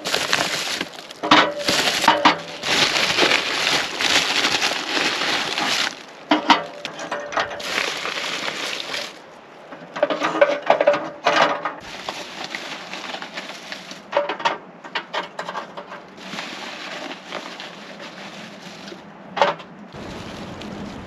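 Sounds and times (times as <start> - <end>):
objects clattering knocks: 0.0 - 18.0.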